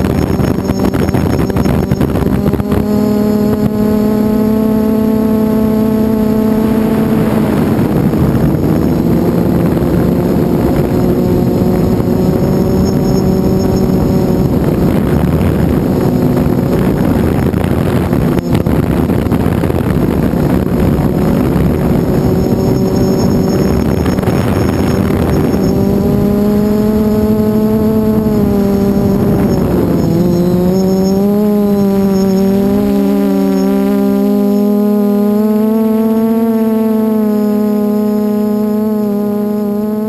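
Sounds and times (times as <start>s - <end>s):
drone motors buzzing: 0.0s - 40.0s
wind noise: 0.0s - 40.0s.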